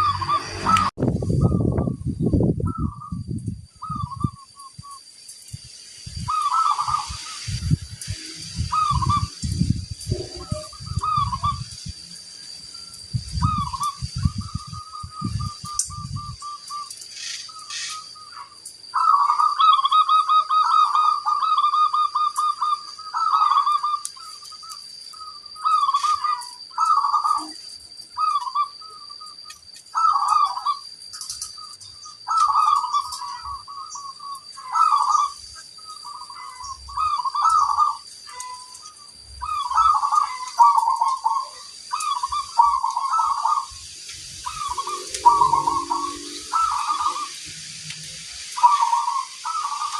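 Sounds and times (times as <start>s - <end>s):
doves cooing: 6.2s - 11.8s, 12.8s - 49.9s.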